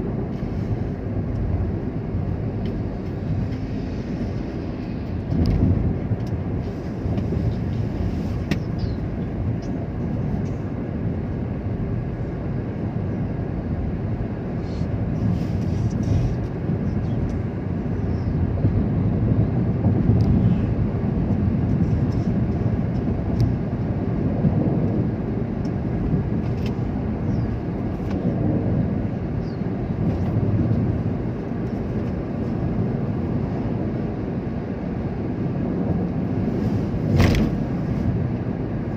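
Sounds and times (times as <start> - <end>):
vehicle driving on road: 0.0 - 38.9.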